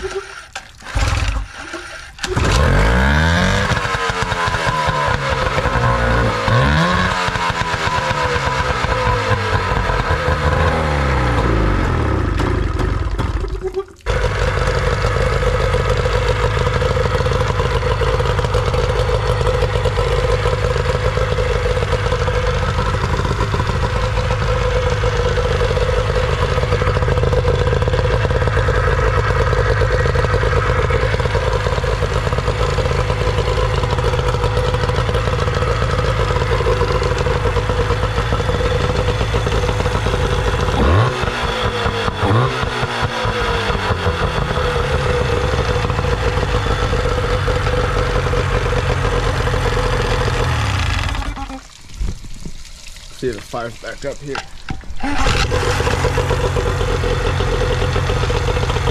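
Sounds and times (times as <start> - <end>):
outboard motor running: 0.0 - 52.6, 53.2 - 58.9.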